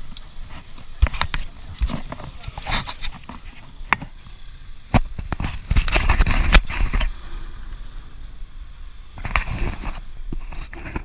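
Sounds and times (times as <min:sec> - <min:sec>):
bicycle rattling over road: 0:00.0 - 0:11.0
wind rushing over microphone: 0:00.0 - 0:11.0.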